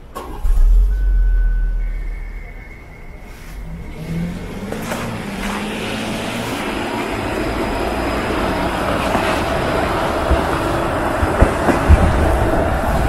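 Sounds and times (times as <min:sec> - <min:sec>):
approaching vehicle rumble: 0:00.0 - 0:13.0.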